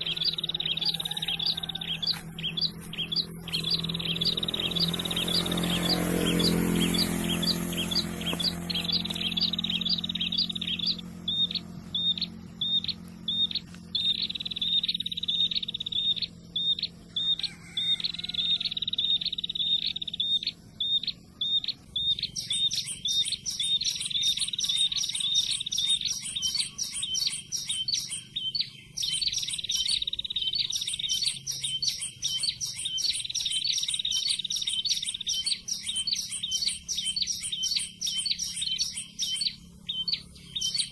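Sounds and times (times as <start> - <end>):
bird chirping rapidly: 0.0 - 40.9
high fast bird trill: 0.0 - 40.9.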